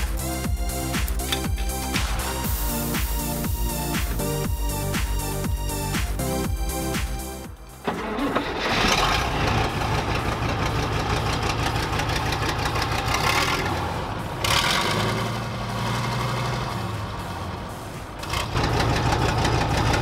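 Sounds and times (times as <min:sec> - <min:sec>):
diesel truck engine starting and running: 0:00.0 - 0:20.0.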